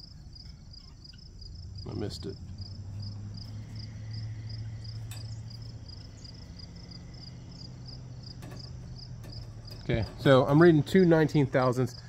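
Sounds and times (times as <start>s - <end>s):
low hum: 0.0s - 11.3s
crickets chirping: 0.0s - 12.0s.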